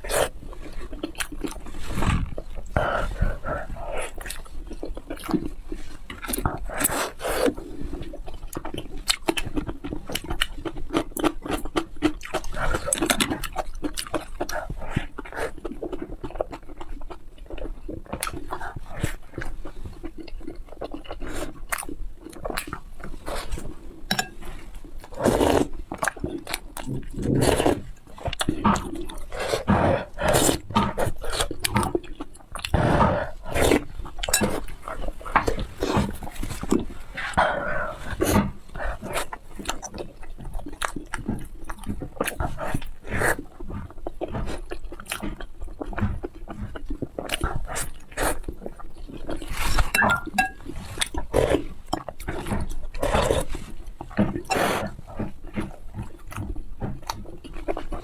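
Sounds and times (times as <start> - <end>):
wet chewing and smacking: 0.0 - 58.0.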